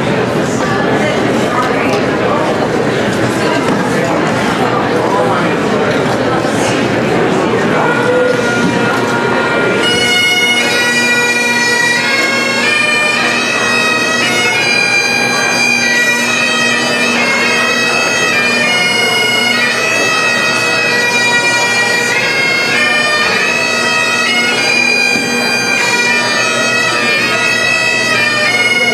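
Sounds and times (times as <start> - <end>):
bagpipes playing a tune: 1.9 - 28.9.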